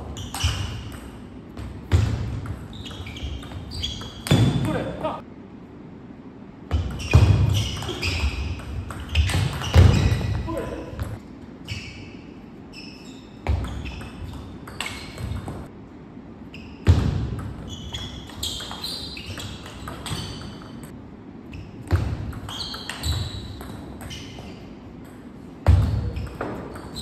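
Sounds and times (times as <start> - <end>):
sports shoes squeaking: 0.0 - 5.2, 6.7 - 15.7, 16.4 - 27.0.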